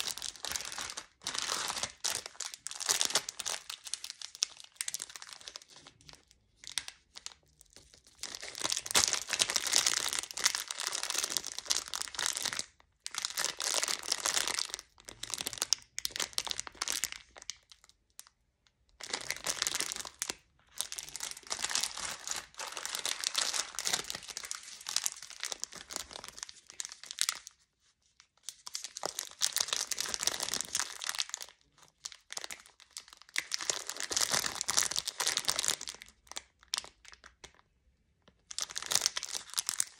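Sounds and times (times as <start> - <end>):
plastic wrappers crinkling: 0.0 - 17.9, 19.0 - 27.6, 28.2 - 37.6, 38.3 - 39.9.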